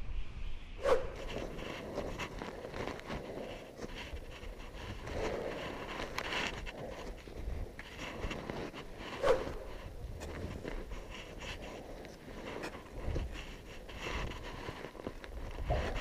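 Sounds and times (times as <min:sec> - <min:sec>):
wind rumbling on microphone: 0:00.0 - 0:16.0
footsteps crunching on snow: 0:01.1 - 0:16.0.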